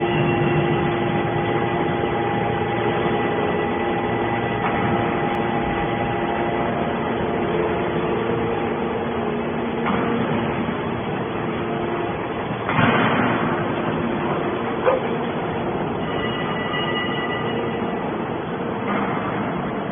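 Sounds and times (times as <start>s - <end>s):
scrap metal baler humming: 0.0s - 19.9s.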